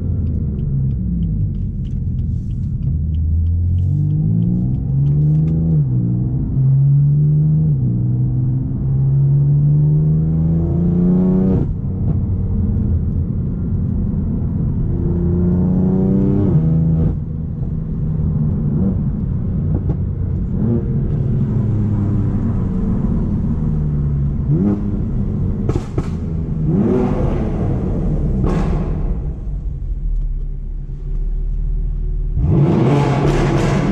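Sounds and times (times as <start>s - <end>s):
car engine accelerating hard: 0.0s - 30.5s, 31.1s - 33.9s.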